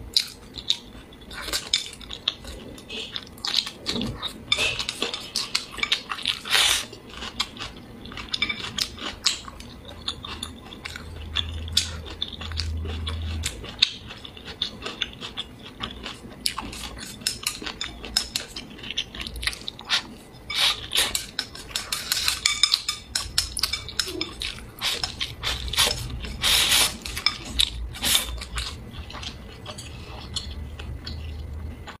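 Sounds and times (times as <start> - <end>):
chewing and wet mouth sounds: 0.0 - 32.0.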